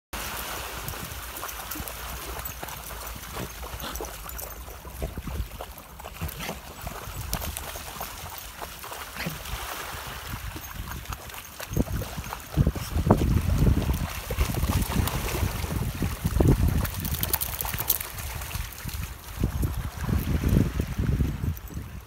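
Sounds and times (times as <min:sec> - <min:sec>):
water lapping around rocks: 0:00.2 - 0:21.7
dogs splashing through water: 0:00.2 - 0:22.0.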